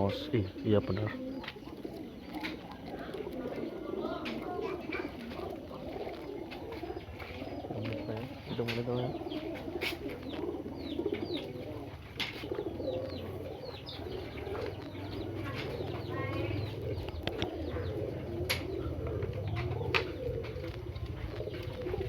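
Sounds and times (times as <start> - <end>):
birds chirping: 0.0 - 22.0
pigeons cooing: 0.0 - 22.0.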